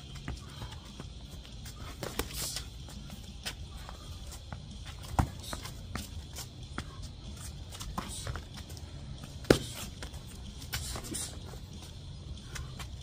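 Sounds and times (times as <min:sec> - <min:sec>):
footwork taps and scuffs: 0:00.0 - 0:13.0.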